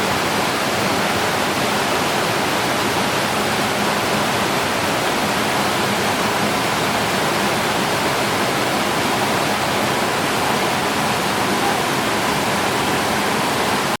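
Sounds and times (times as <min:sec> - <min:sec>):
rushing stream and waterfall: 0:00.0 - 0:14.0.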